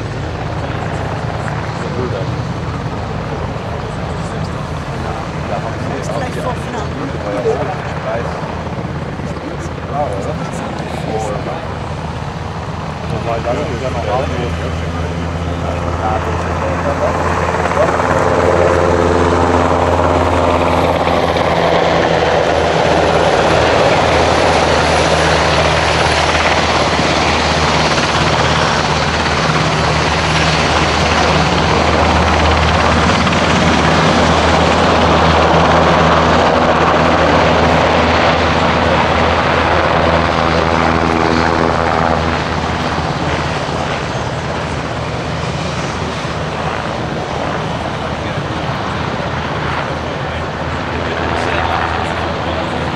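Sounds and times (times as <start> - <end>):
helicopter engine drone: 0.0 - 52.9
helicopter rotor thrum: 0.0 - 52.9
high turbine whine: 0.0 - 52.9.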